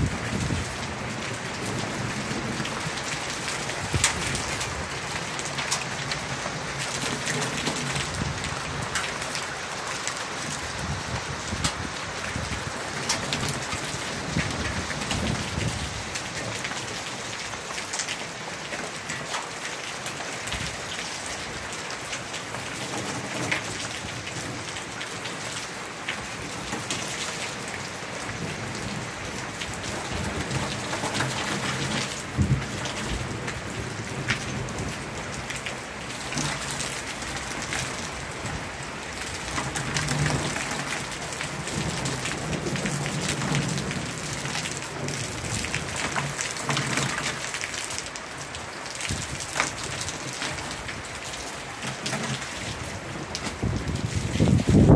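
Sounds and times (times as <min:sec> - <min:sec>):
rain on wooden deck: 0:00.0 - 0:54.9
rain splashing into barrels: 0:00.0 - 0:54.9.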